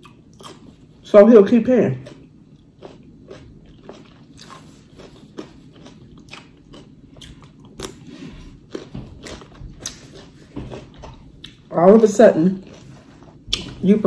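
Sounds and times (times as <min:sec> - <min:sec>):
chewing crab meat: 0:00.0 - 0:14.0.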